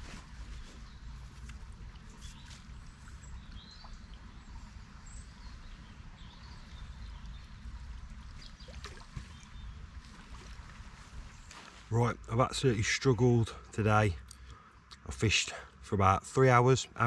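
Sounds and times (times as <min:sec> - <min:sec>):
river water flowing: 0:00.8 - 0:16.0.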